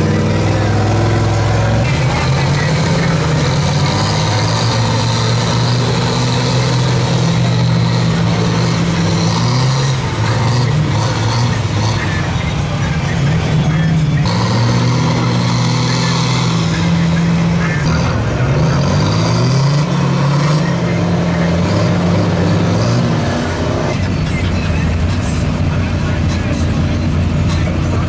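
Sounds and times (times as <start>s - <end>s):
big diesel engines droning: 0.0s - 28.0s.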